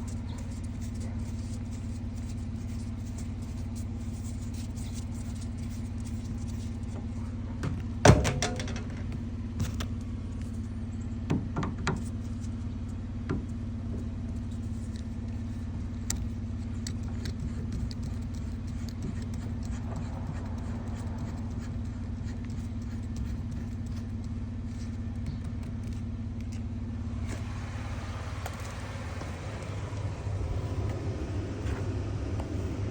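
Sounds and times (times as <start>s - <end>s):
vehicle engine idling: 0.0s - 32.9s.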